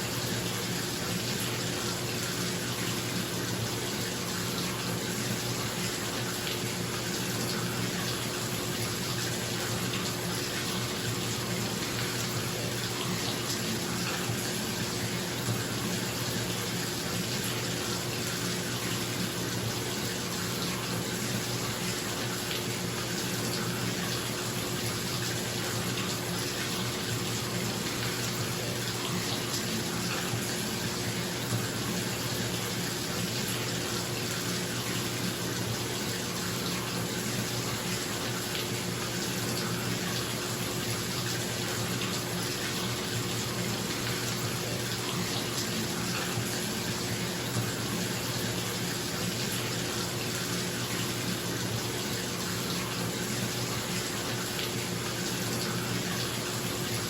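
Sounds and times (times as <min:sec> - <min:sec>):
water pouring into bathtub: 0:00.0 - 0:57.0.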